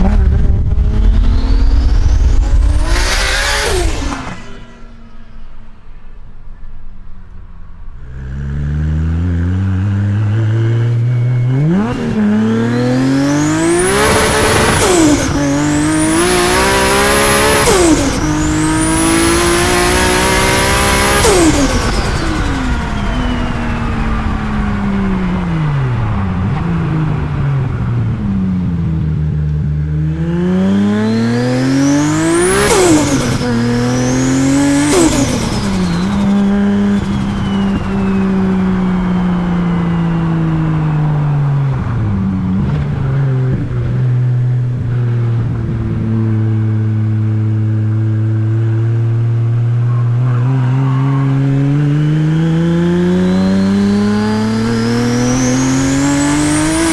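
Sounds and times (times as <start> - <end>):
car engine revving: 0.0 - 7.0, 7.7 - 56.9.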